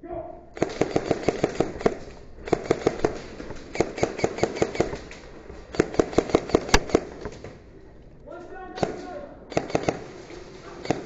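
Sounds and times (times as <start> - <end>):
airsoft gun bursts: 0.5 - 11.0.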